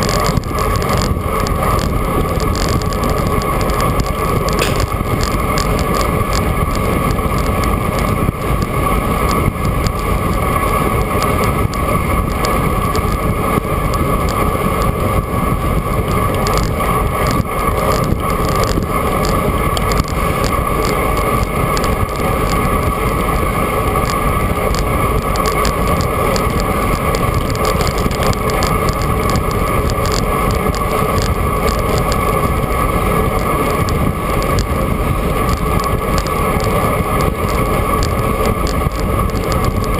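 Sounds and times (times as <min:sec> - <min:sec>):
bicycle tyre and road noise: 0:00.0 - 0:39.9
wind rushing on microphone: 0:00.0 - 0:39.9.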